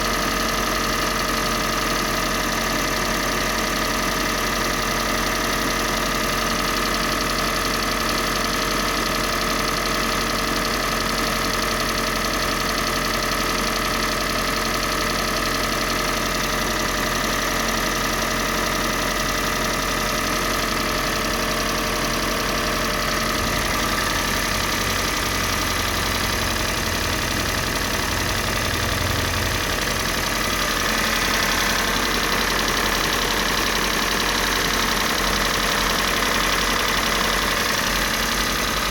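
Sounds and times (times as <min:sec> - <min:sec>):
car engine idling with knock: 0:00.1 - 0:38.9.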